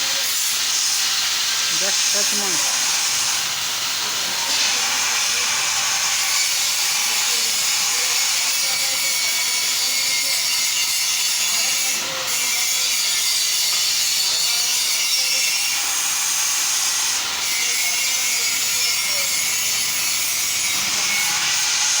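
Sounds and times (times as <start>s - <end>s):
arc welding crackling hiss: 0.0s - 22.0s.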